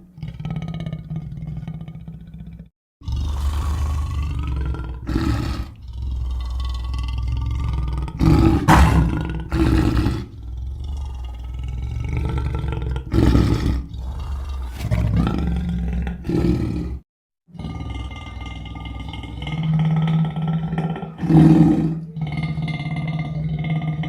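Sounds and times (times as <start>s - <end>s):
lion growling: 0.0s - 24.0s
lion roaring: 3.0s - 24.0s.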